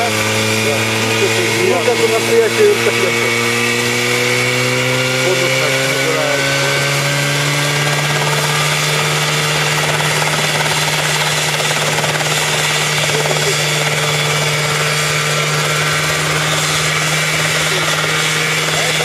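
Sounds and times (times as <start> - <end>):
helicopter engine and rotor: 0.0 - 19.0.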